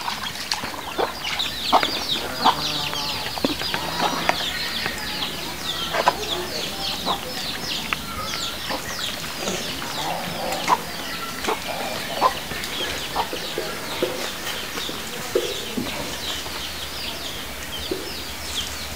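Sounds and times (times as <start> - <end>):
birds chirping: 0.0 - 18.9
chickens clucking: 0.0 - 18.9.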